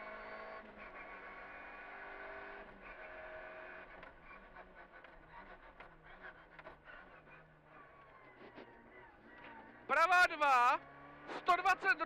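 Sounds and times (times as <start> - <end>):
rally car engine from inside cabin: 0.0 - 12.0.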